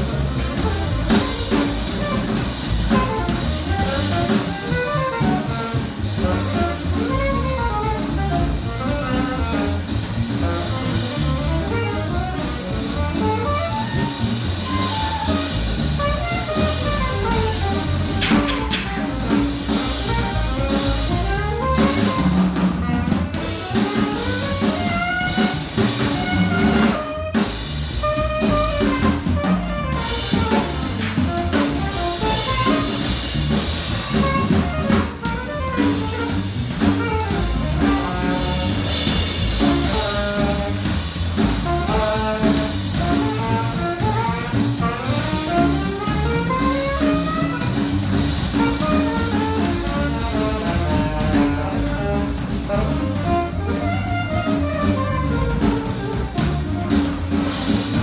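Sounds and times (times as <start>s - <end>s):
alto saxophone: 0.0s - 58.0s
bass clarinet: 0.0s - 58.0s
double bass: 0.0s - 58.0s
drum kit: 0.0s - 58.0s.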